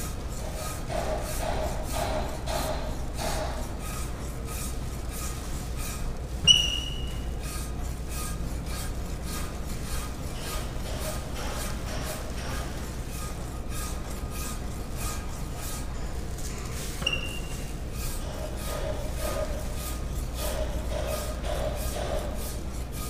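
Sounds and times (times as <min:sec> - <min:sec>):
metal rasp scraping plaster: 0:00.0 - 0:23.0.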